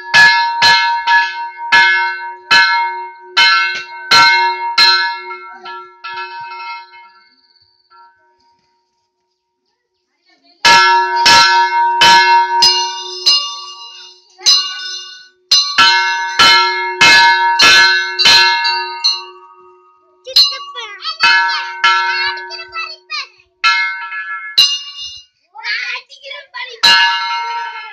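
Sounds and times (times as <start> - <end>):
metal temple bell clanging: 0.0 - 8.4, 10.6 - 25.4, 26.2 - 27.9.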